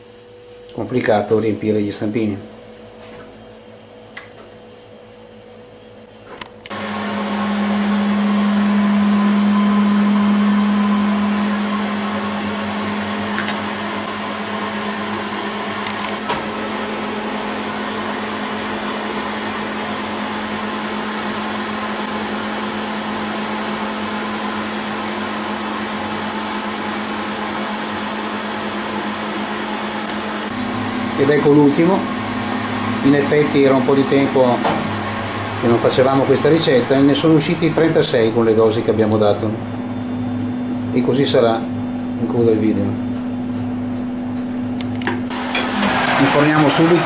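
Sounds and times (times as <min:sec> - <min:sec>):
appliance fan motor humming: 0:00.0 - 0:47.0.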